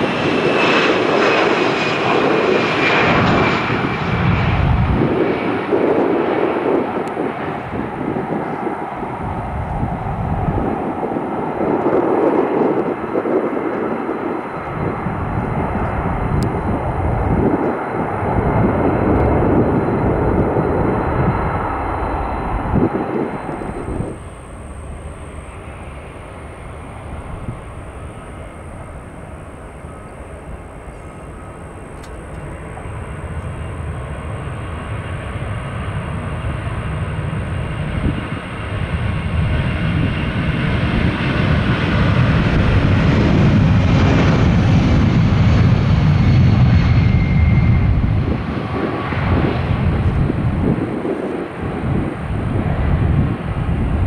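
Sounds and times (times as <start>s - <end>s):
jet airliner engine rumble: 0.0s - 54.0s.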